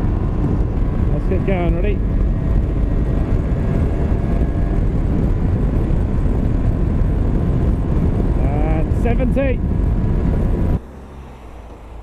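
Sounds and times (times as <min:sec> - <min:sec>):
motorcycle engine drone: 0:00.0 - 0:12.0
wind rushing on microphone: 0:00.0 - 0:12.0.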